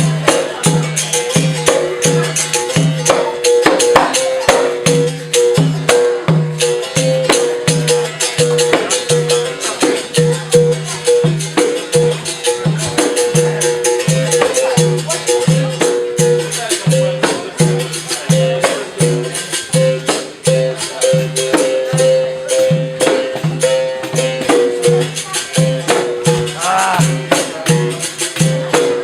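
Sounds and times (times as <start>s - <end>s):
bass beat: 0.0s - 29.0s
shaker percussion: 0.0s - 29.0s.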